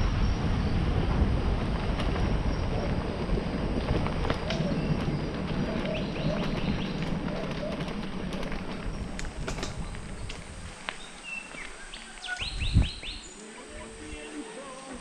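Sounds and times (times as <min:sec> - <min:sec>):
wind on microphone: 0:00.0 - 0:15.0
bike tyres crunching on gravel: 0:00.4 - 0:13.6
birds chirping: 0:02.1 - 0:15.0.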